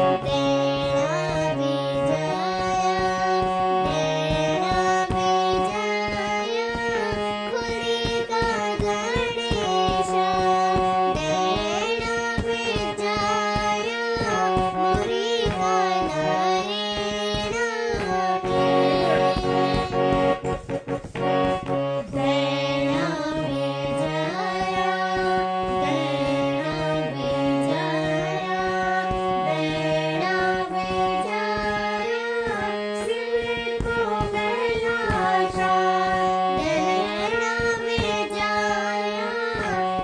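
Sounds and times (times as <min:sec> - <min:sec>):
girl singing folk song: 0:00.0 - 0:40.0
harmonium chords: 0:00.0 - 0:40.0.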